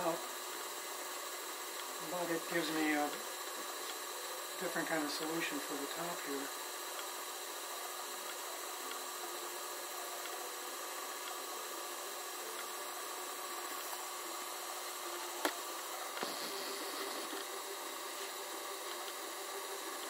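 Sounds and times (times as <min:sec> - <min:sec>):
potter's wheel whirring: 0:00.0 - 0:20.0.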